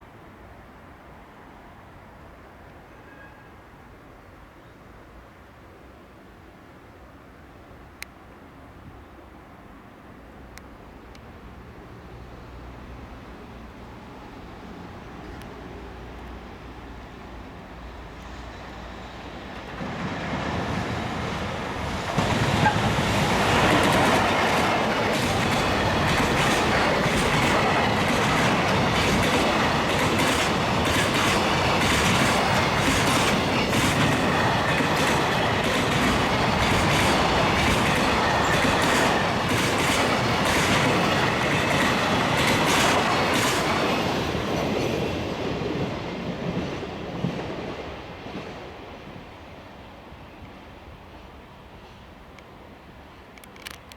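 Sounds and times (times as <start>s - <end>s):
freight train passing: 0.0s - 53.9s.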